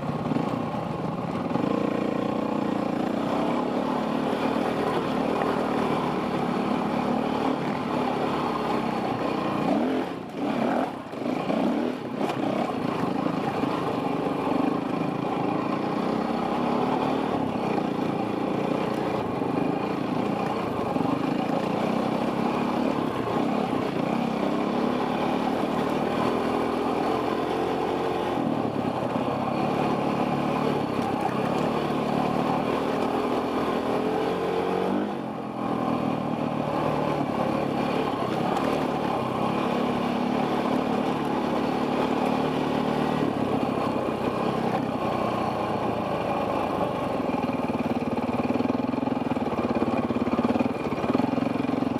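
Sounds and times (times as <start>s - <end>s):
dirt bike engine revving: 1.4s - 48.7s.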